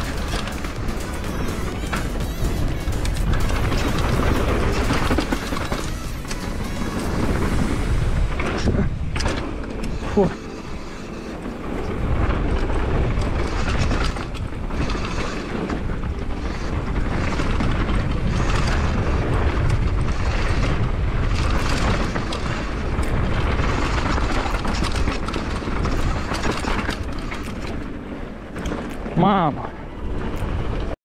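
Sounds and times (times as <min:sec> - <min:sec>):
bike clattering over bumps: 0:00.0 - 0:07.3, 0:11.4 - 0:29.3
wind and tyres rumbling: 0:00.0 - 0:31.0.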